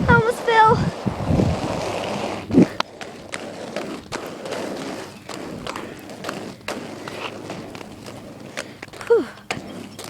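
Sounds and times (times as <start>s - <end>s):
roller skates clicking and thumping: 0.0s - 10.0s.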